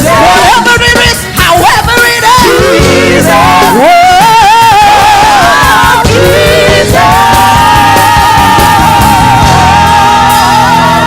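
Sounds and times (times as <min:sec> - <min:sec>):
gospel church band music: 0:00.0 - 0:11.0.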